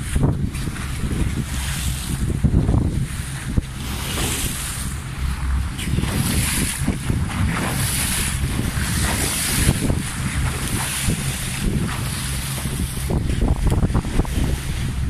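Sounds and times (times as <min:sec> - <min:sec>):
water splashing past boat hull: 0:00.0 - 0:15.0
wind buffeting microphone: 0:00.0 - 0:15.0.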